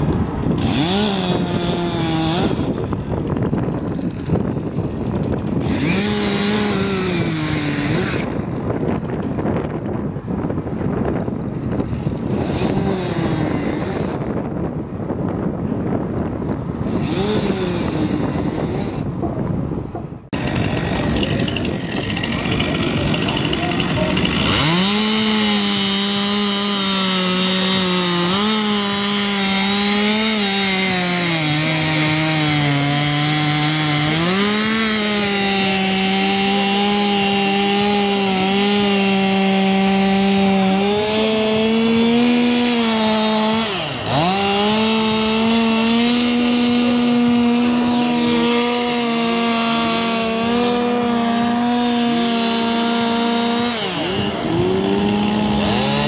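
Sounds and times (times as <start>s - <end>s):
chainsaw cutting log: 0.0s - 9.9s, 10.8s - 14.6s, 16.6s - 19.3s, 20.3s - 56.0s.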